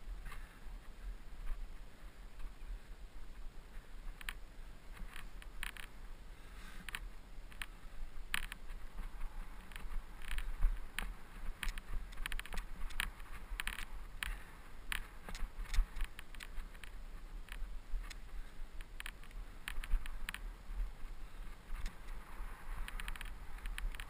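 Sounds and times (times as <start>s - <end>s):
wind rumble on microphone: 0.0s - 24.0s
bike rattling over dirt trail: 0.1s - 24.0s.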